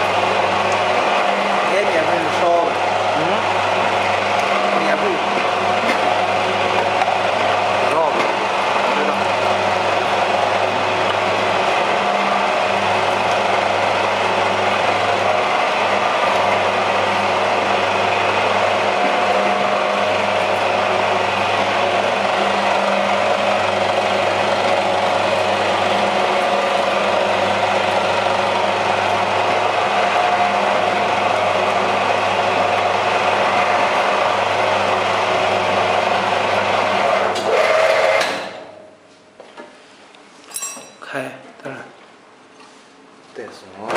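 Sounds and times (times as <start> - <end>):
motor hum: 0.0 - 38.9.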